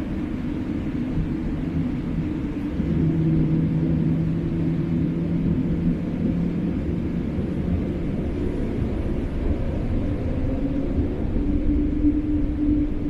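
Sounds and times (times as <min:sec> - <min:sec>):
aircraft cabin rumble: 0:00.0 - 0:13.0
low engine hum: 0:00.0 - 0:13.0.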